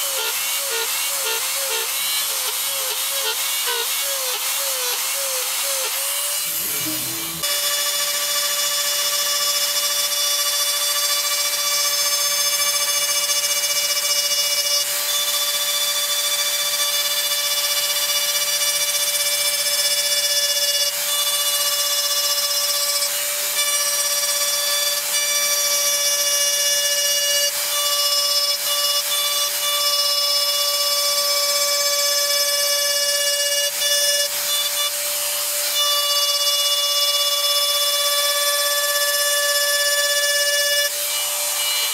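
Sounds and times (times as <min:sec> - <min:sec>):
rotary carving tool whining: 0:00.0 - 0:41.9.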